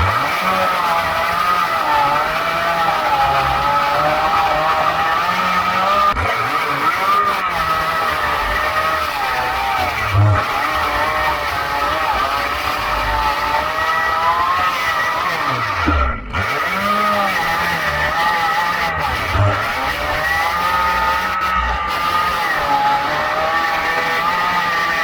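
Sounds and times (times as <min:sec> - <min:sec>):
chainsaw cutting branches: 0:00.0 - 0:25.0.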